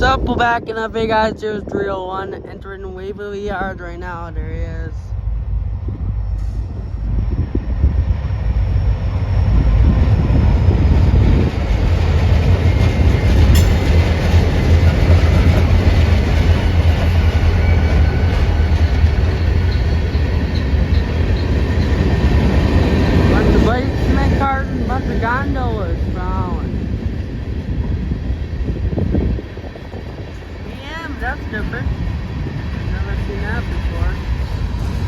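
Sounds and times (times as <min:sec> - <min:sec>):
freight train rumbling past: 0:00.0 - 0:35.0.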